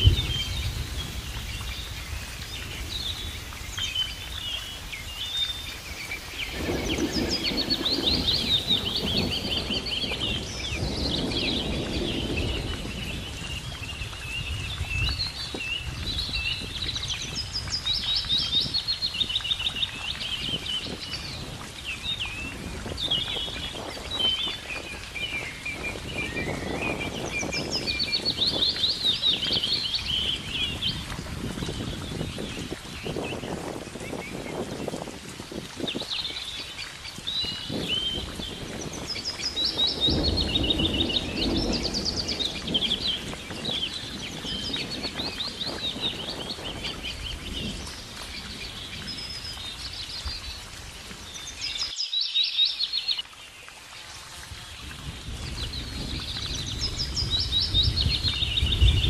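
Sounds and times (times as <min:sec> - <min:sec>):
birds singing and trilling: 0:00.0 - 0:53.4, 0:54.8 - 0:59.0.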